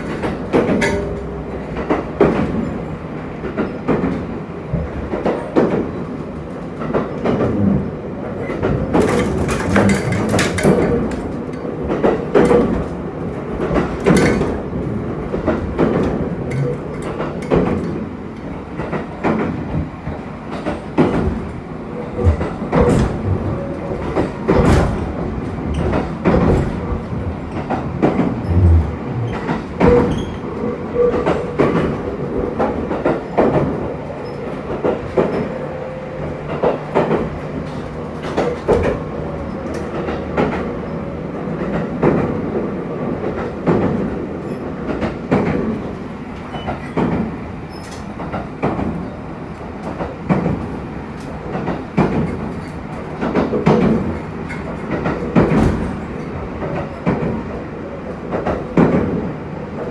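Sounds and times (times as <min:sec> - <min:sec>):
train rumble: 0:00.0 - 0:59.9
wheels clacking on track: 0:00.0 - 0:59.9.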